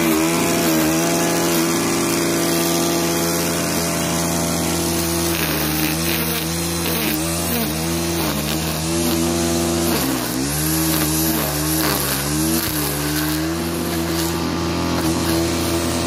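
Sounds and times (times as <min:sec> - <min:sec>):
brush cutter engine at high revs: 0:00.0 - 0:16.0
trimmer cutting grass: 0:00.0 - 0:16.0.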